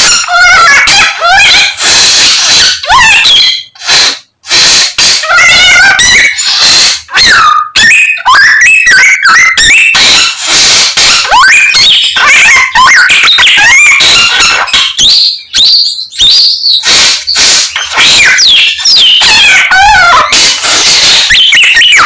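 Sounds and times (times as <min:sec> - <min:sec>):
bird singing whistles and trills: 0:00.9 - 0:07.0, 0:07.8 - 0:22.0.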